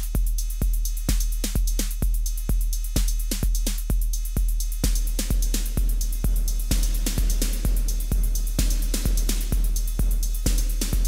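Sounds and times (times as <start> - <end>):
drum machine kick drum: 0.0 - 11.0
hi-hat ticks: 0.0 - 11.0.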